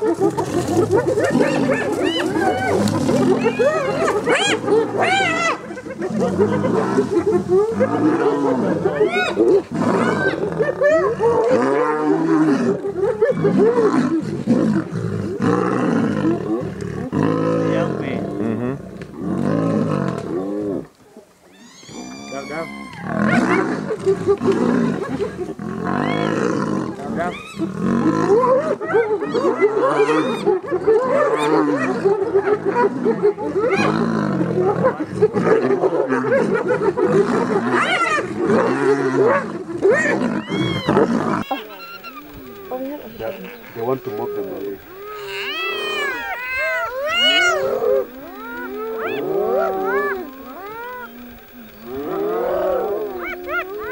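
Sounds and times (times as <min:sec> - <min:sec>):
hyenas calling: 0:00.0 - 0:20.4, 0:21.5 - 0:34.1, 0:34.8 - 0:53.9
lions snarling and growling: 0:00.0 - 0:20.9, 0:21.9 - 0:53.9.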